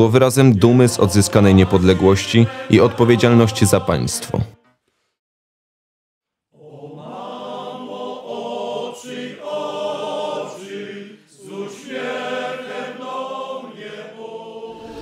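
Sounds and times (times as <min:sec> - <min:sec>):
choir singing: 0:00.0 - 0:04.6, 0:06.6 - 0:15.0.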